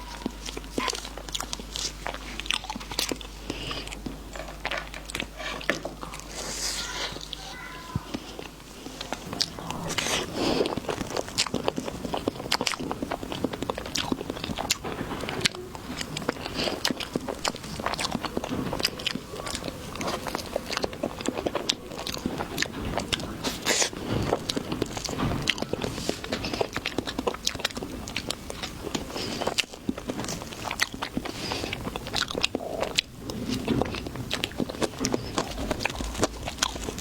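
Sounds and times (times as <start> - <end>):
person chewing crunchy fruit: 0.0 - 37.0.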